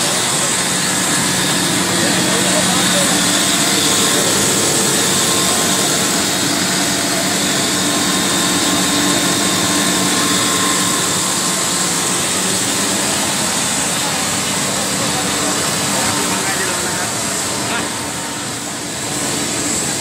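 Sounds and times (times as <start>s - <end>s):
machine drone and hiss: 0.0s - 20.0s.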